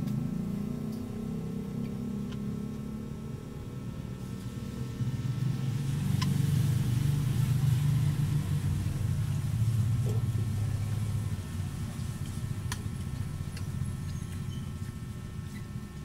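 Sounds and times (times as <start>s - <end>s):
low motor rumble: 0.0s - 16.0s.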